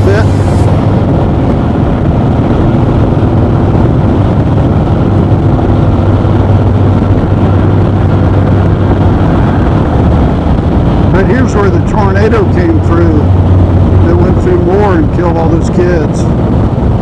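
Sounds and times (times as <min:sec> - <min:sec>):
motorcycle engine running: 0:00.0 - 0:17.0
road and wind rush: 0:00.0 - 0:17.0.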